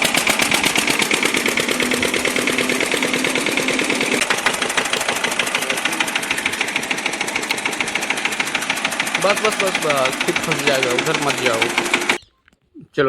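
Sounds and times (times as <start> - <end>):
small motor clattering: 0.0 - 12.2.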